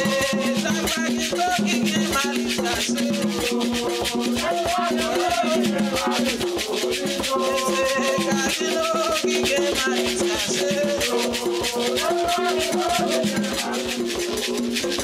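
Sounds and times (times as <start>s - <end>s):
band music with shaker percussion: 0.0s - 15.0s.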